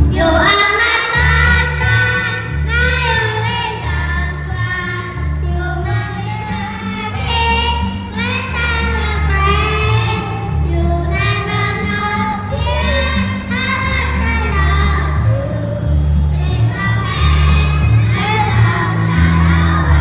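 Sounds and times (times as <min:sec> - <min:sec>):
backing track with pulsing bass: 0:00.0 - 0:20.0
children singing: 0:00.0 - 0:20.0.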